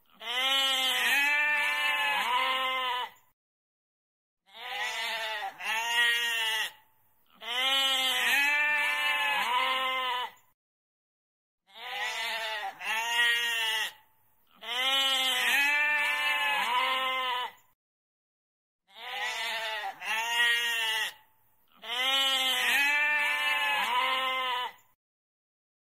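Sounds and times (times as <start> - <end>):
goat bleating: 0.1 - 3.2, 4.5 - 10.4, 11.7 - 17.6, 18.9 - 24.9.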